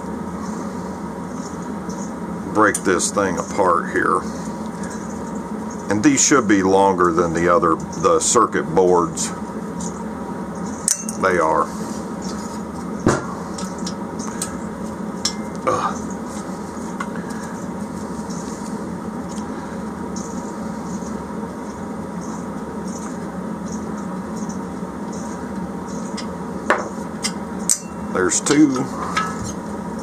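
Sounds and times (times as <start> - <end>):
background hiss and hum: 0.0 - 30.0.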